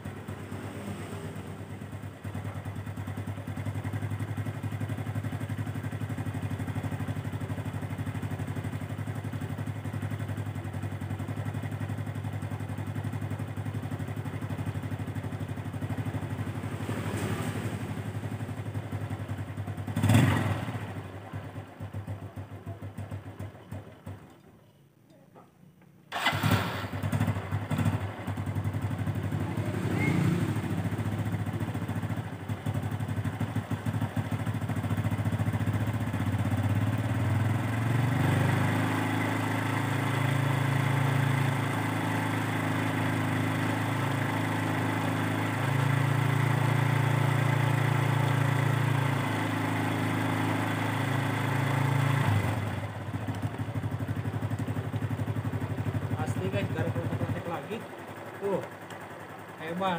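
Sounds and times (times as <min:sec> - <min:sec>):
motorcycle engine starting and idling: 0:00.0 - 0:24.8, 0:25.4 - 0:59.9.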